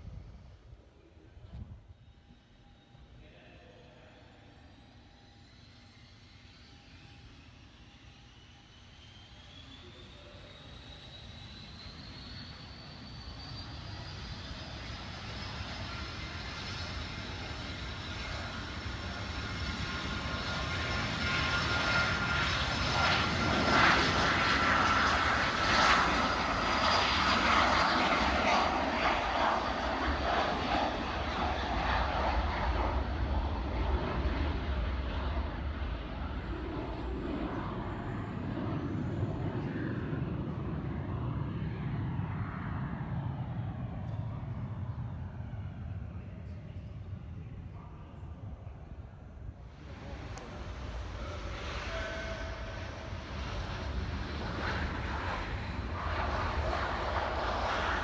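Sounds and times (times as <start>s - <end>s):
jet taking off: 4.4s - 47.6s, 49.4s - 58.0s.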